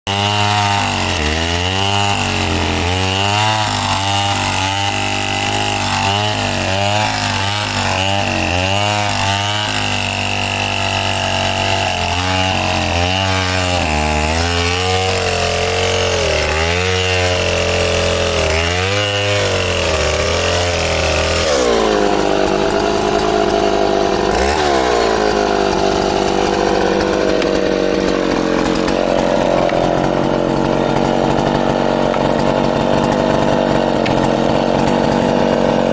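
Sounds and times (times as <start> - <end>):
chainsaw engine revving: 0.0 - 35.9.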